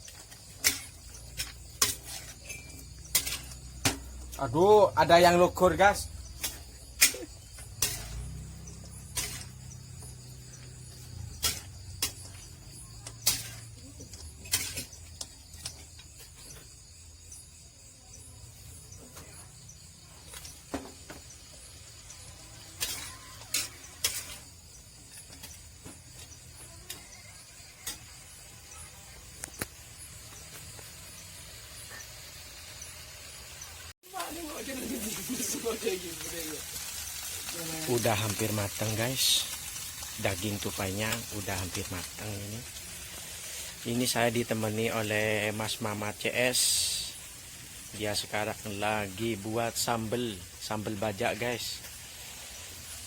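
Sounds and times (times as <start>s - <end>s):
crickets chirping: 0.0s - 53.0s
meat sizzling in a pan: 0.0s - 53.0s.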